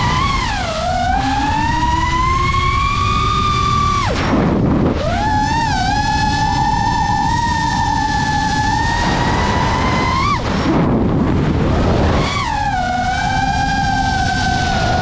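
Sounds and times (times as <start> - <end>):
drone motors whining: 0.0 - 15.0
rush of wind: 0.0 - 15.0.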